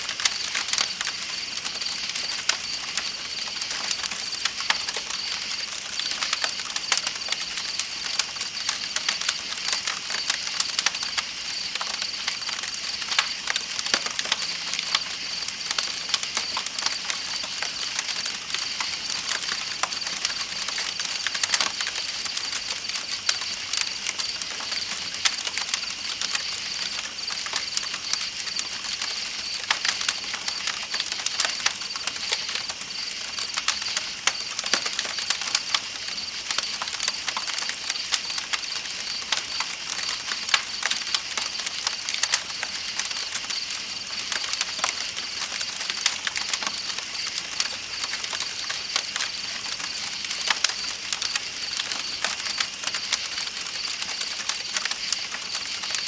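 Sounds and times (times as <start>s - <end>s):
campfire crackling: 0.0s - 56.0s
night insects trilling: 0.0s - 56.0s.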